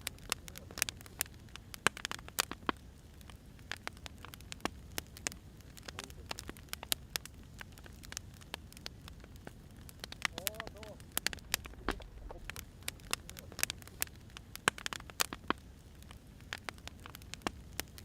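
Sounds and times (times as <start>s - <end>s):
firewood popping and snapping: 0.0s - 18.0s
low rumble of fire: 0.0s - 18.0s.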